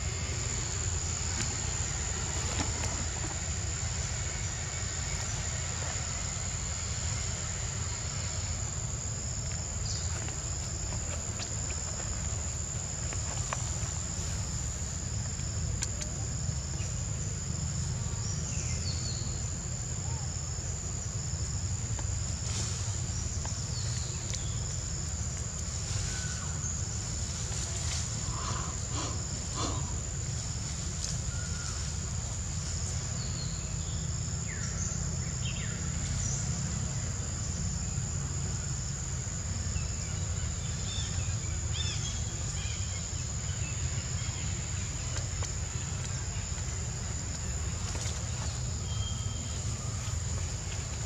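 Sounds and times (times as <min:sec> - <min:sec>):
high-pitched insect drone: 0:00.0 - 0:51.0.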